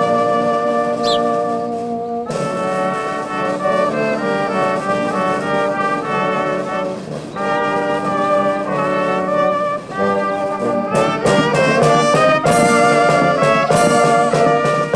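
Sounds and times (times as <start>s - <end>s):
brass band playing a melody: 0.0s - 14.9s.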